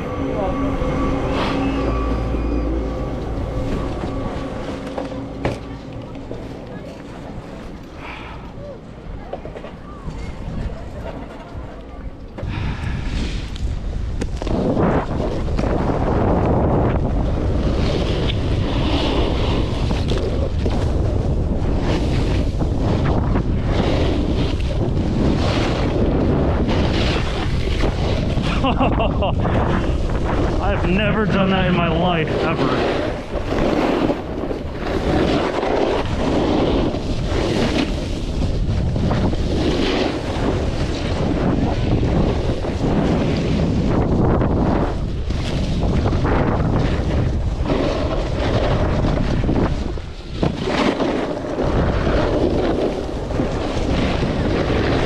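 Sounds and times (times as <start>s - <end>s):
snowboard sliding over snow: 0.0s - 8.4s, 12.4s - 55.0s
wind buffeting microphone: 0.0s - 55.0s.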